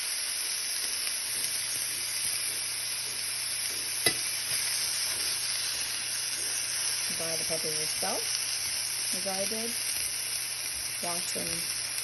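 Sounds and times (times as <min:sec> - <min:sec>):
vegetables sizzling in oil: 0:00.0 - 0:12.0
metal tongs turning food: 0:00.4 - 0:11.6.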